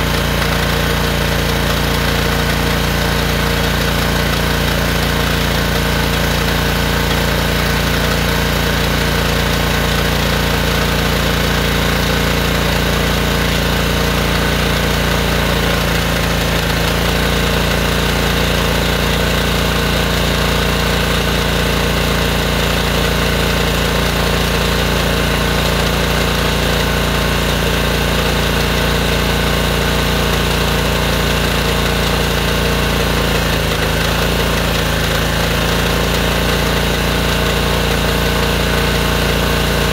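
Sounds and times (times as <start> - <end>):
high-pressure water in drain: 0.0 - 39.9
pressure washer engine running: 0.0 - 39.9.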